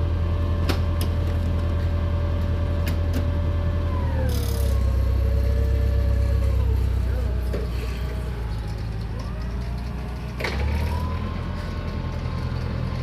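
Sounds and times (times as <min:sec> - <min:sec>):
lift engine humming: 0:00.0 - 0:13.0.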